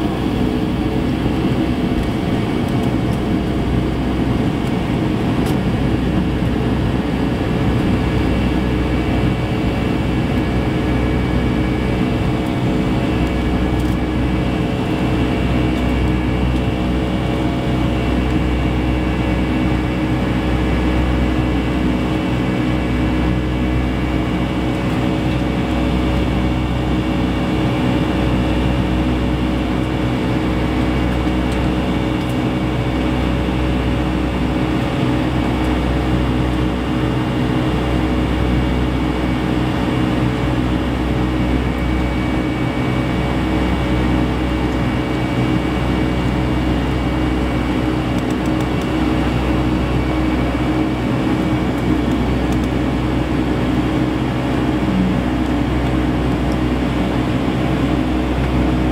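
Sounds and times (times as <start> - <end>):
jet airliner cabin drone: 0.0 - 58.9.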